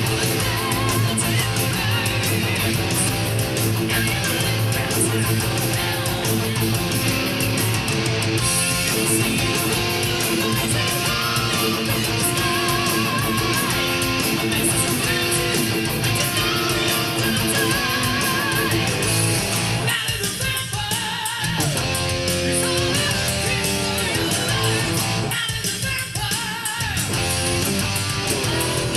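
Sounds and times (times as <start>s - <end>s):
electric guitar heavy metal riffs: 0.0s - 28.9s
full band playing: 0.0s - 28.9s.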